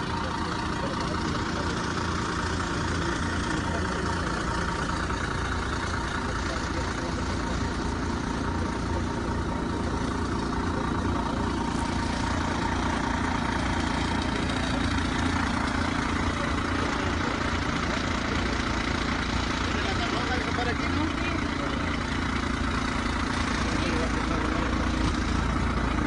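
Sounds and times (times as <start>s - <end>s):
large vehicle engine idling: 0.0s - 26.0s.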